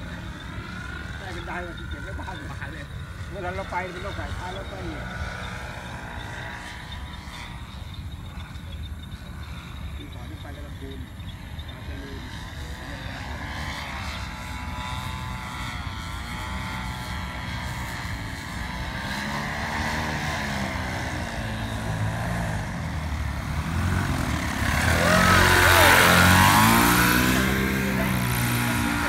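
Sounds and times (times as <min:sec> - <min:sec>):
paramotor engine and propeller: 0:00.0 - 0:29.0.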